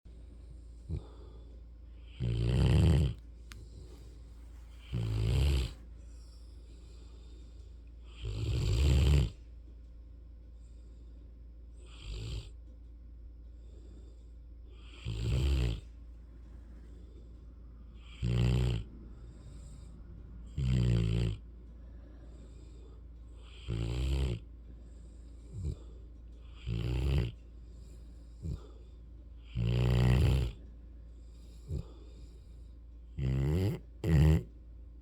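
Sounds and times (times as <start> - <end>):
puppy snoring: 0.1 - 9.7, 10.5 - 12.8, 13.4 - 35.0.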